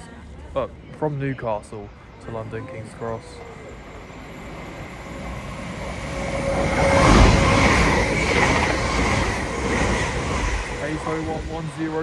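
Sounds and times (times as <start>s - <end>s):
electric train passing at speed: 0.1s - 12.0s.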